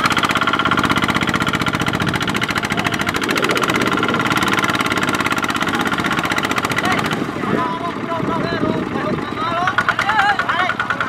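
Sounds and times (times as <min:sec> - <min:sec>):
diesel engine chugging: 0:00.0 - 0:11.0.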